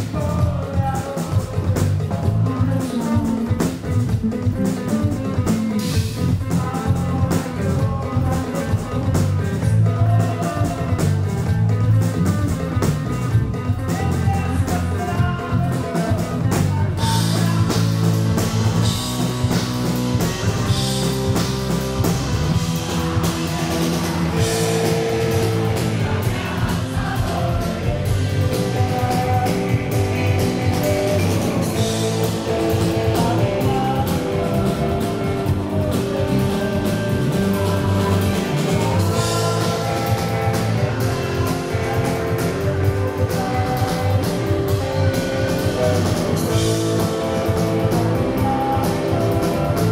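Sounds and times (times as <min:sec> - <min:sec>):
bass guitar: 0:00.0 - 0:49.9
drum kit: 0:00.0 - 0:49.9
electric guitars: 0:00.0 - 0:49.9.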